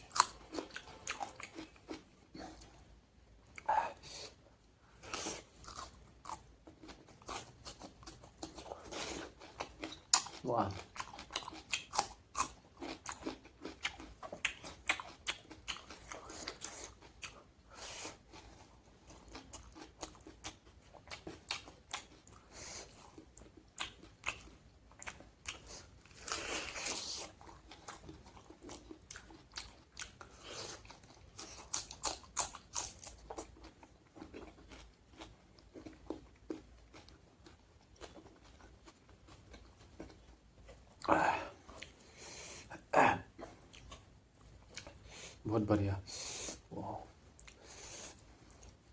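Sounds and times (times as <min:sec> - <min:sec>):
person chewing food: 0:00.0 - 0:45.4, 0:46.1 - 0:48.9.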